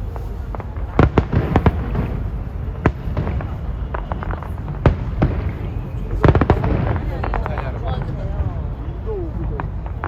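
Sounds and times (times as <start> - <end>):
continuous low rumble: 0.0 - 10.0
fireworks bursting with sharp bangs: 0.0 - 10.0.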